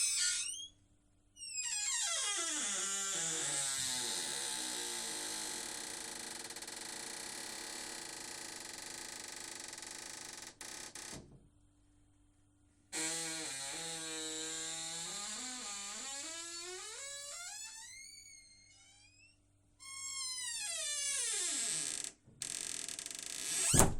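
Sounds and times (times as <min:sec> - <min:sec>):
door hinge creaking: 0:00.0 - 0:00.7, 0:01.4 - 0:11.3, 0:13.0 - 0:23.9.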